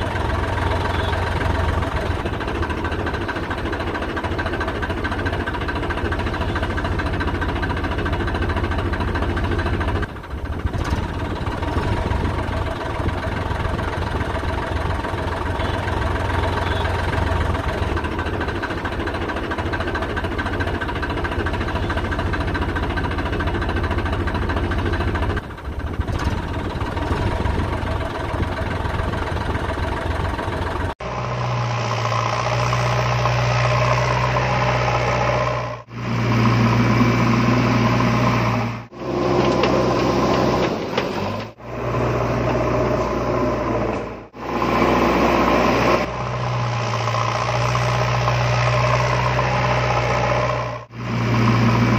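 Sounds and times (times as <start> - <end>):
engine with deeper hum: 0.0 - 51.9
tractor engine idling: 0.0 - 51.9.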